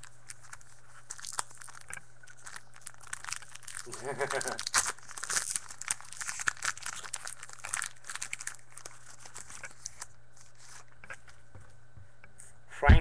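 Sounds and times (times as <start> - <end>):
foil wrapper crinkling: 0.0 - 11.4.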